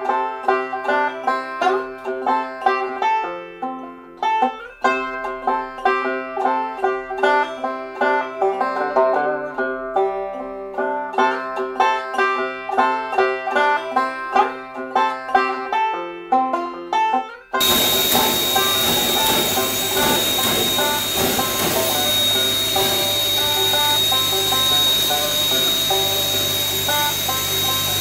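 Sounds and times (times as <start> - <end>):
plucked string bluegrass music: 0.0 - 28.0.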